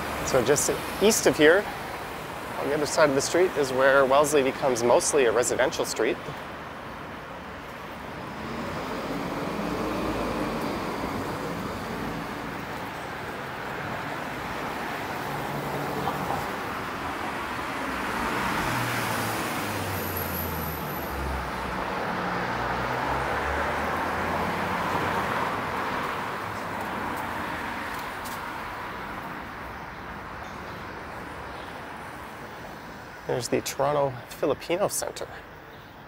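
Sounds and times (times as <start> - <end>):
cars driving past: 0.0 - 34.3.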